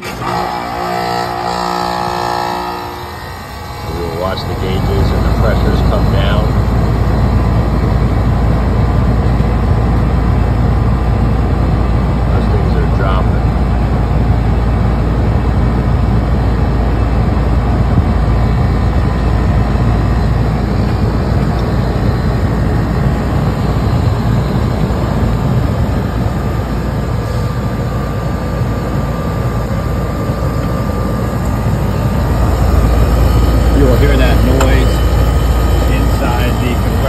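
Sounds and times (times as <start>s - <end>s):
air conditioner unit droning: 0.0s - 37.0s.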